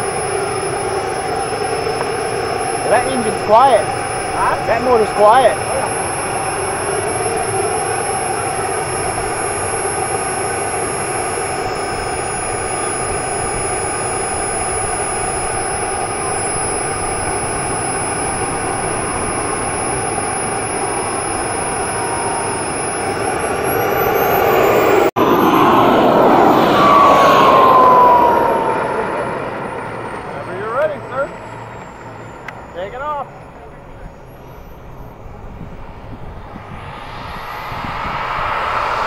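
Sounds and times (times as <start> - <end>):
gas turbine engine whine: 0.0 - 39.0.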